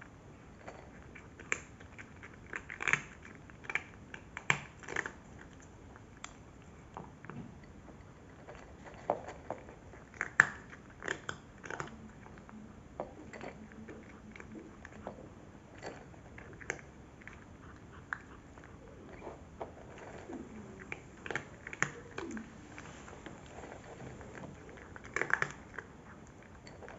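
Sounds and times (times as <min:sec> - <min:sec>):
cat crunching dry kibble: 0:00.4 - 0:07.3, 0:08.0 - 0:26.9.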